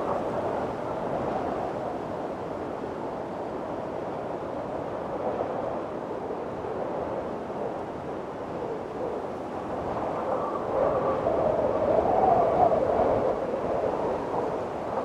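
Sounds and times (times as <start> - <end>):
strong wind blowing: 0.0 - 15.0.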